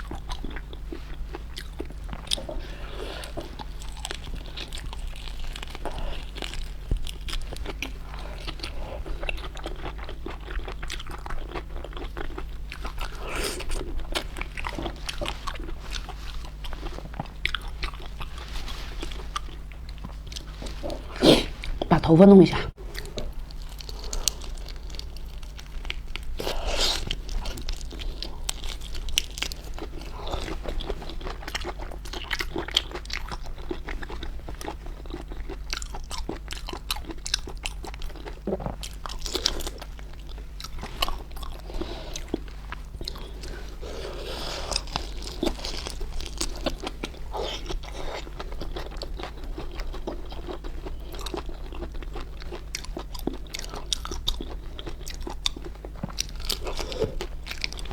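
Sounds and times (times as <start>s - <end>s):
steady low hum: 0.0s - 57.9s
wet chewing: 0.0s - 57.9s.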